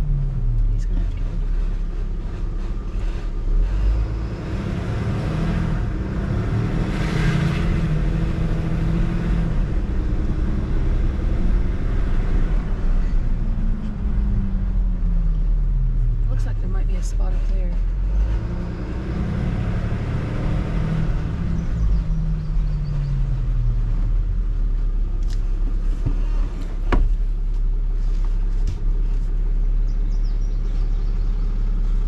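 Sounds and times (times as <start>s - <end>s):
road noise: 0.0s - 32.0s
truck engine running: 0.0s - 32.0s.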